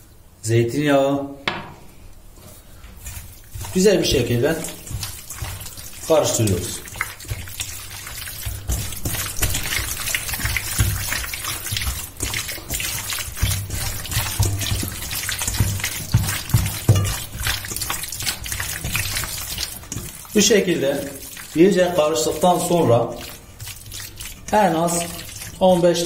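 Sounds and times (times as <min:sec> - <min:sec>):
hand squelching meat in marinade: 0:01.9 - 0:26.0.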